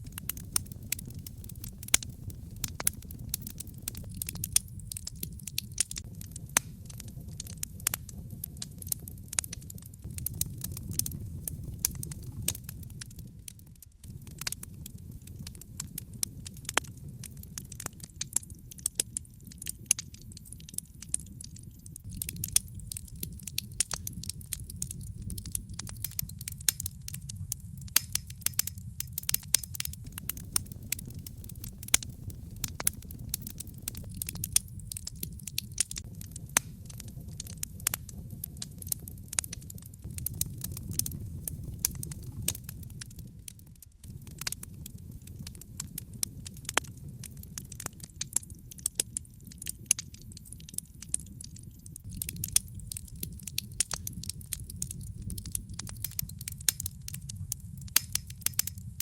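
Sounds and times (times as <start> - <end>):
logs crackling in a fireplace: 0.0 - 59.0.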